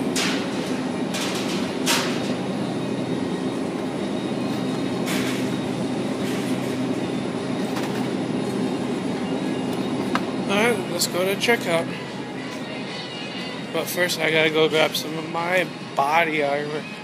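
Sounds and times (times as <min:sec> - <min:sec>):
steady drone: 0:00.0 - 0:17.0.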